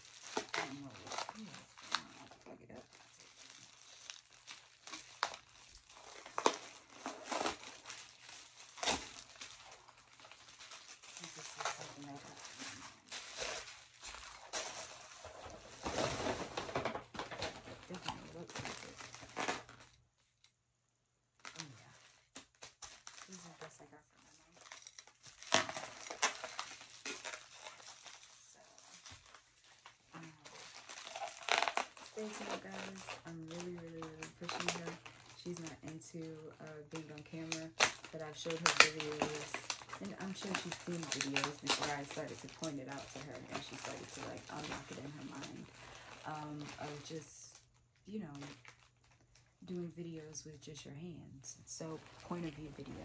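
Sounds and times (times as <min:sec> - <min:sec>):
plastic bag crinkling: 0:00.0 - 0:20.5, 0:21.4 - 0:49.8, 0:51.7 - 0:53.0
sharp plastic crackles: 0:00.0 - 0:20.6, 0:21.3 - 0:50.3, 0:51.8 - 0:53.0.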